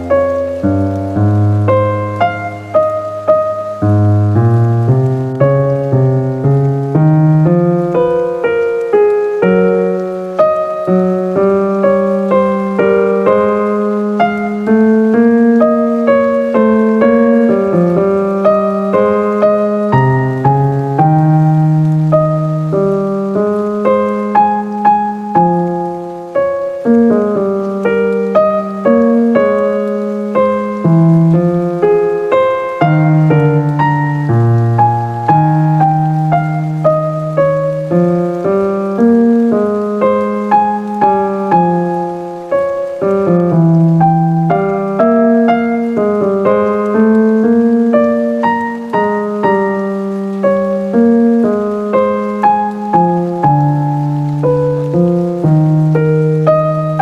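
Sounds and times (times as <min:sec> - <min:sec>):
slow piano melody: 0:00.0 - 0:57.0.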